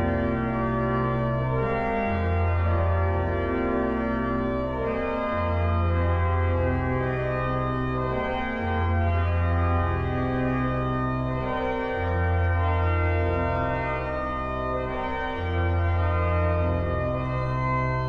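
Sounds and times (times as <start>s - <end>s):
pipe organ chords: 0.0s - 18.0s.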